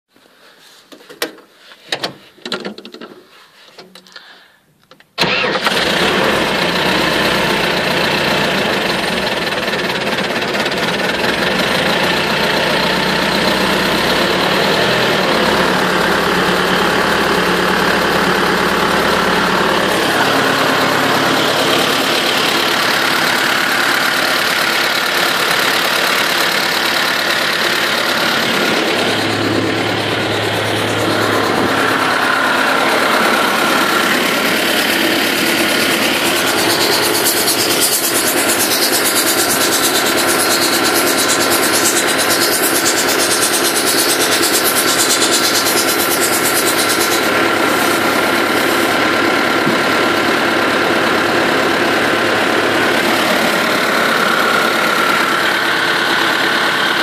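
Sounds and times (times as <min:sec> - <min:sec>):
diesel tractor engine running: 0:05.2 - 0:57.0.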